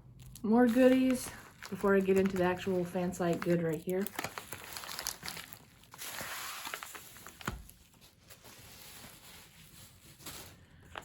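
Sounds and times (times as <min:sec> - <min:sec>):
packaging rustling: 0:00.2 - 0:11.0.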